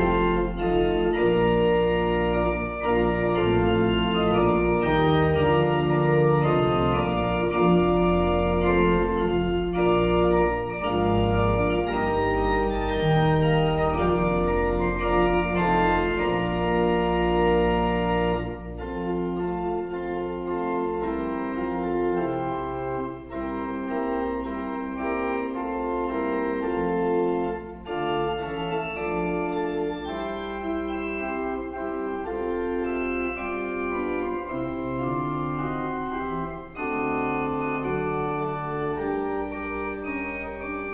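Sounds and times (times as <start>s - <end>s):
church pipe organ playing: 0.0s - 40.9s.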